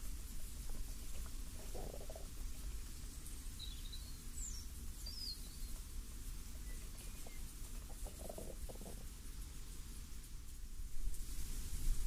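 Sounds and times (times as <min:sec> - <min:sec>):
songbirds chirping: 0:00.0 - 0:10.7
low breeze: 0:00.0 - 0:12.0
soft rustle: 0:00.0 - 0:12.0.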